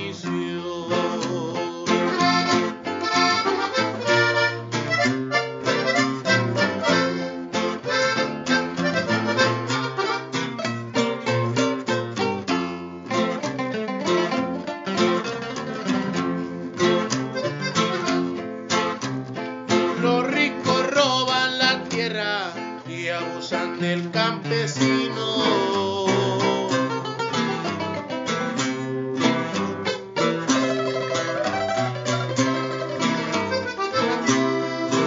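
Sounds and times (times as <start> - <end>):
accordion melody: 0.0 - 35.0
strummed guitar: 0.0 - 35.0.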